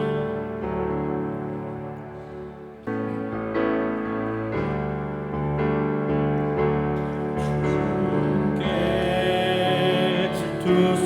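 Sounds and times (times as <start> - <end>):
keyboard playing sustained chords: 0.0 - 11.0.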